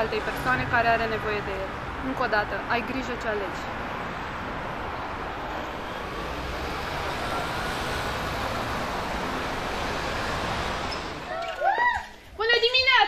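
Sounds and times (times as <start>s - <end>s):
road traffic noise: 0.0s - 12.4s.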